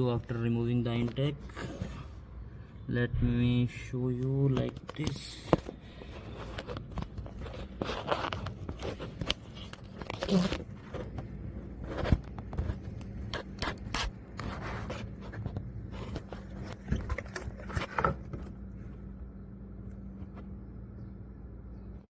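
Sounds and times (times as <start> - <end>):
hand scraping engine parts: 0.0 - 2.6, 3.8 - 19.2
steady low hum: 0.0 - 22.0.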